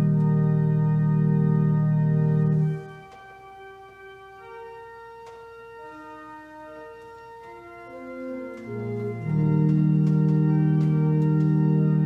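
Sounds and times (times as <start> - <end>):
church organ playing: 0.0 - 12.0.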